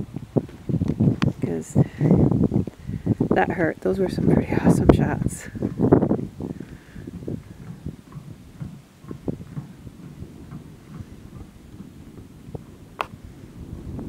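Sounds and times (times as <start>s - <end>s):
wind or handling noise rumble: 0.0s - 14.0s.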